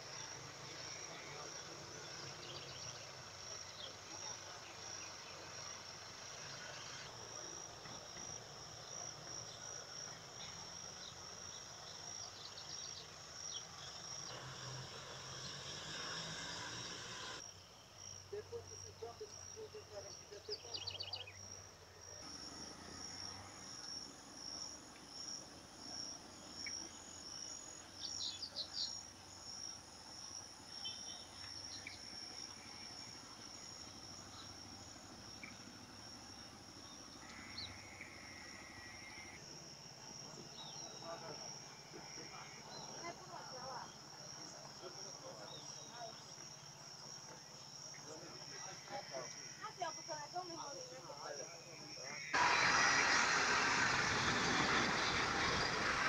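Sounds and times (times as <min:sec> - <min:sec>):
high steady insect buzz: 0:00.0 - 0:52.7
insects chirping: 0:00.0 - 0:56.0.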